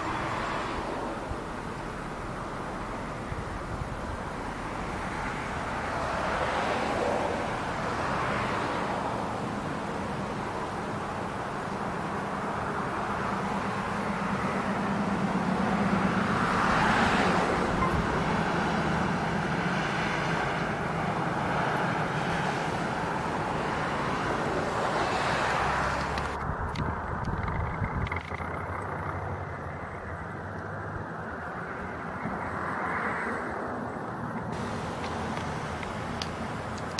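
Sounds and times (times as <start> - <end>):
steady traffic hum: 0.0 - 36.9
vehicles driving past: 0.0 - 36.9.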